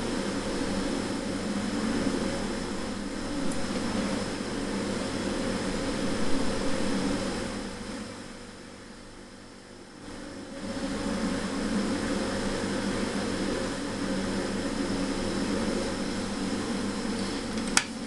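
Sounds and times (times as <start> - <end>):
fan whooshing: 0.0 - 18.0.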